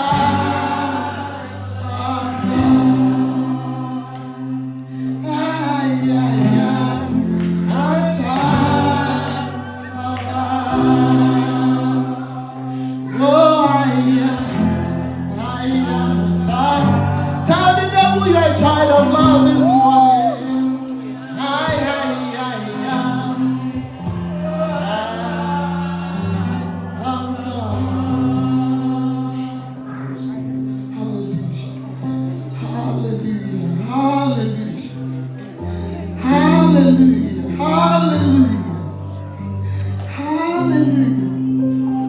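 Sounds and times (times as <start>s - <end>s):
group singing gospel: 0.0s - 42.0s
sustained keyboard chords: 0.0s - 42.0s.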